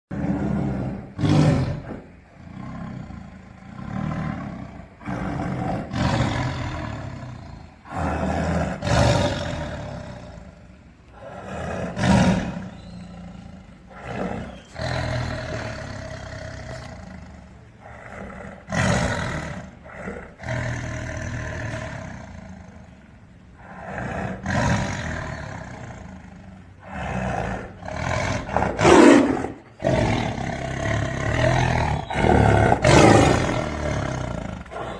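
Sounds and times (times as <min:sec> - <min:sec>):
tiger roaring and growling: 0:00.1 - 0:34.9.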